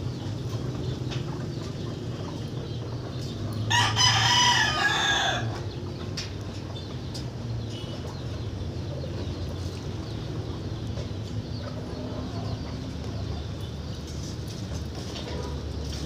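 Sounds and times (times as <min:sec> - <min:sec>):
birds calling faintly: 0:00.0 - 0:16.0.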